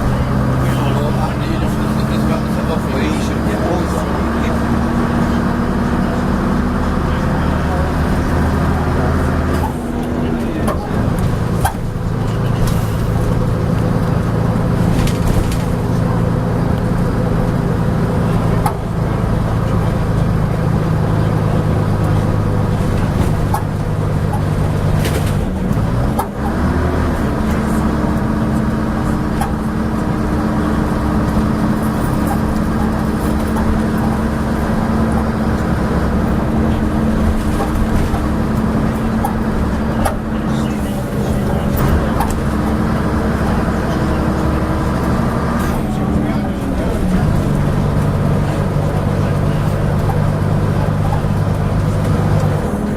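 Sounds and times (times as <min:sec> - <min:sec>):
bus clanks: 0:00.0 - 0:52.9
bus diesel engine shifting gear: 0:00.0 - 0:52.9.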